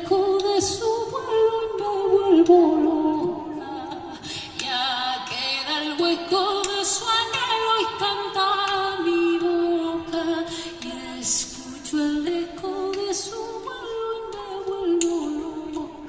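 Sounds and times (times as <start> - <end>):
vocal harmony lines: 0.0 - 16.0
woman singing a cappella: 0.0 - 16.0.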